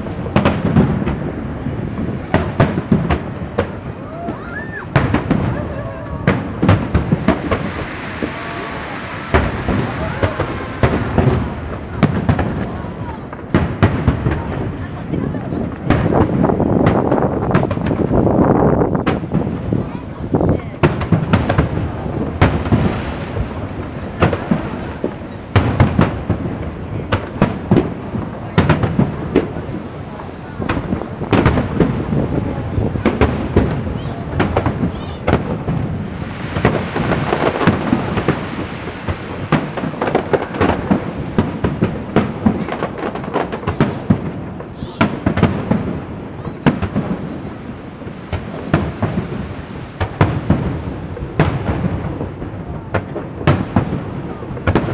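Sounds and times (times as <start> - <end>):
fireworks bangs: 0.0 - 54.9
fireworks hissing: 0.0 - 54.9.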